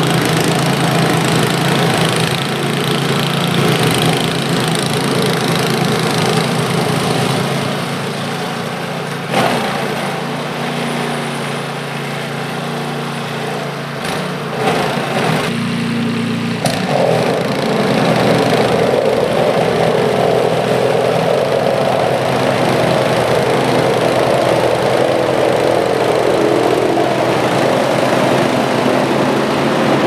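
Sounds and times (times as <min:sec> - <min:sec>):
snowblower engine running: 0:00.0 - 0:30.0.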